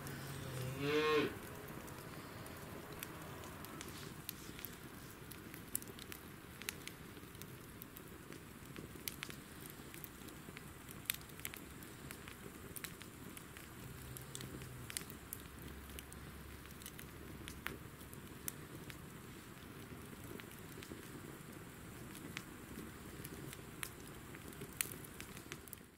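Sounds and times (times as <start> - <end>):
wood fire crackling and popping: 0.0 - 25.9.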